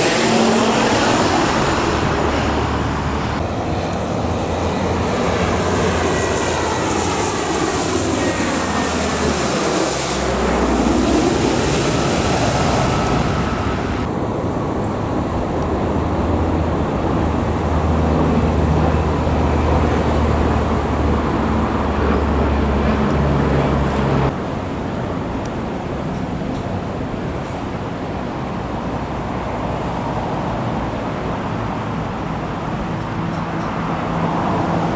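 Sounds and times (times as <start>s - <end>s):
propeller aircraft droning overhead: 0.0s - 34.9s.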